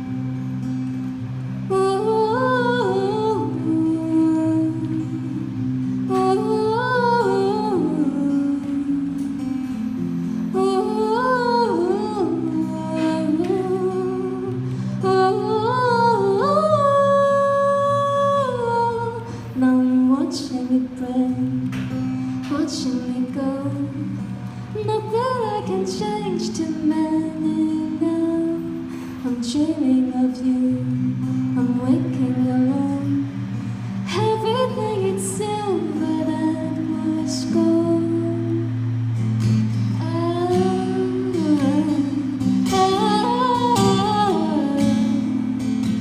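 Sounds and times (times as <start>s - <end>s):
strummed acoustic guitar: 0.0s - 46.0s
woman singing: 0.0s - 46.0s.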